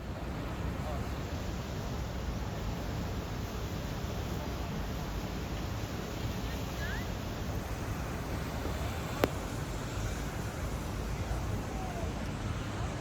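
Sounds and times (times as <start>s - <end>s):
street noise rumble and hiss: 0.0s - 13.0s.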